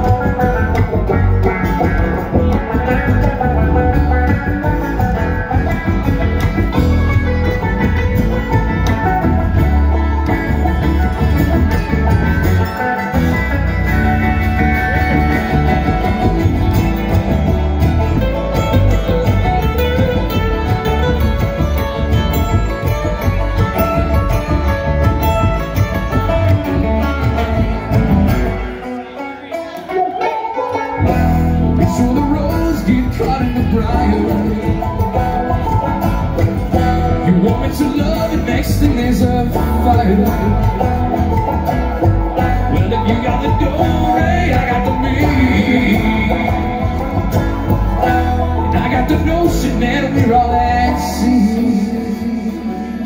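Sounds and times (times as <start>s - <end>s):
acoustic guitar: 0.0s - 53.0s
banjo: 0.0s - 53.0s
mandolin: 0.0s - 53.0s
upright bass: 0.0s - 53.0s.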